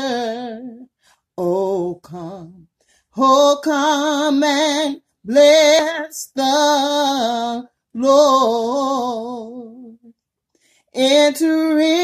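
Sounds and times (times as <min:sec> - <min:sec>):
woman singing unaccompanied: 0:00.0 - 0:10.1, 0:11.0 - 0:12.0.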